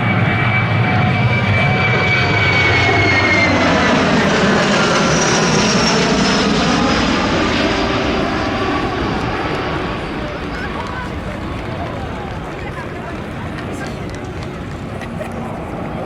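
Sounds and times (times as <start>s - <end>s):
aircraft flying past: 0.0s - 16.0s.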